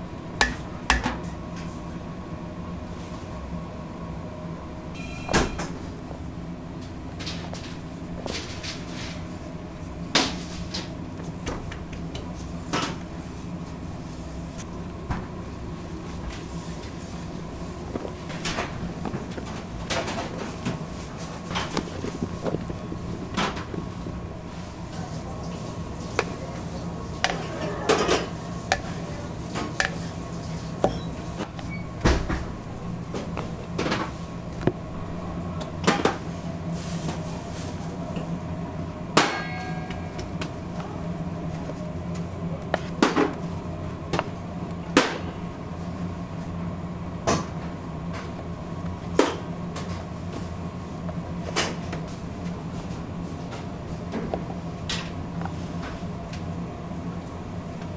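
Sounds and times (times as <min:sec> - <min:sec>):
kitchen machines humming: 0:00.0 - 0:57.9.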